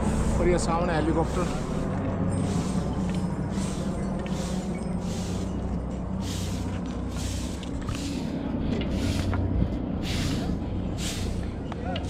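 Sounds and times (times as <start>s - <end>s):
helicopter drone: 0.0s - 12.0s
footsteps swishing on concrete: 1.2s - 11.6s.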